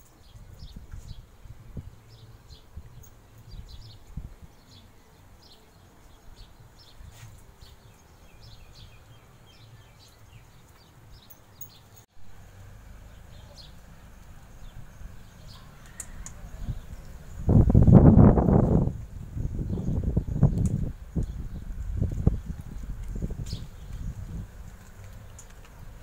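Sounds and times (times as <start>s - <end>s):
birds chirping: 0.0s - 12.1s, 12.8s - 26.0s.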